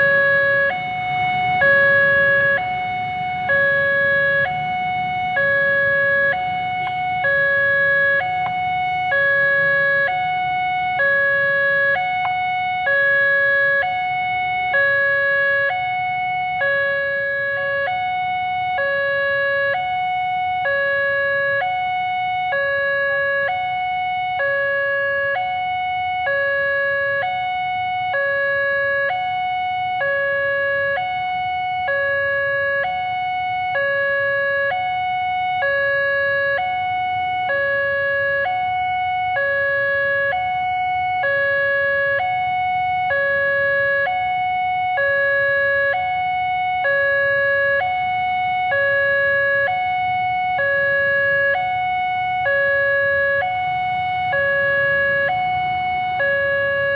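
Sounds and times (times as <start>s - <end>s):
two-tone warning siren: 0.0s - 56.9s.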